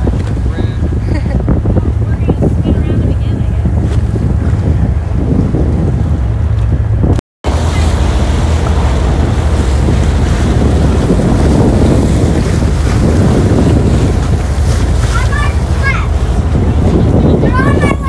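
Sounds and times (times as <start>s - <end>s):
boat engine low rumble: 0.0s - 18.0s
water rushing along hull: 0.0s - 18.0s
wind buffeting microphone: 0.0s - 18.0s.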